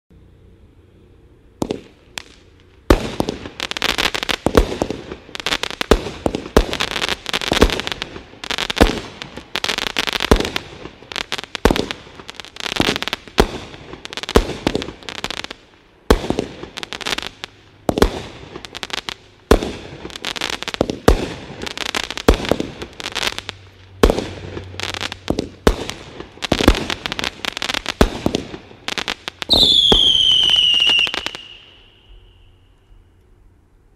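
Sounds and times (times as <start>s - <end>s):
fireworks launching: 1.4s - 33.0s
fireworks stars popping: 1.6s - 32.5s.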